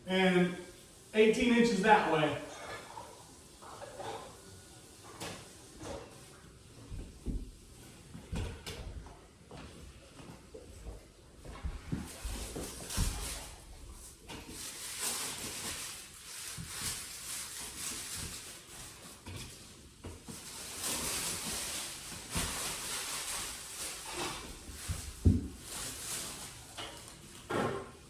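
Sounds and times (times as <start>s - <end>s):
rustling and scraping: 2.5s - 28.0s.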